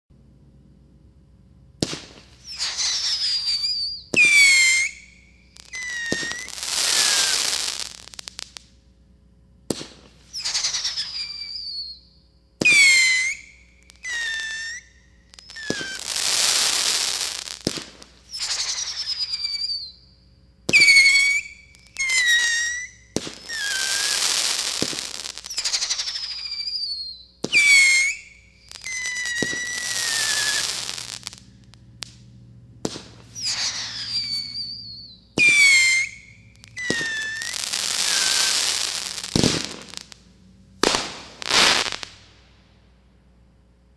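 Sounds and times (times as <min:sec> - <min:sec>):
falling firework whistle: 0:01.8 - 0:08.8, 0:09.7 - 0:42.5
firework crackling: 0:01.8 - 0:08.8, 0:09.7 - 0:12.0, 0:12.6 - 0:20.0, 0:20.7 - 0:42.7
firework launch pops: 0:01.8 - 0:08.8, 0:09.6 - 0:11.8, 0:12.6 - 0:19.9, 0:20.7 - 0:42.8.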